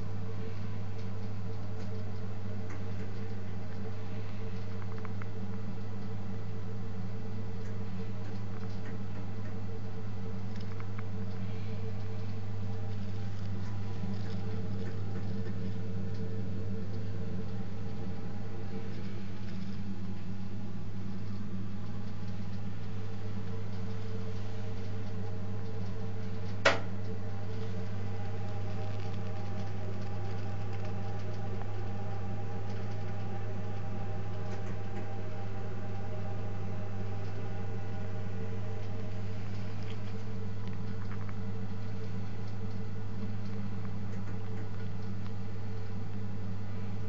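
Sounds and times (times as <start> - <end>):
gas boiler humming: 0.0 - 47.0.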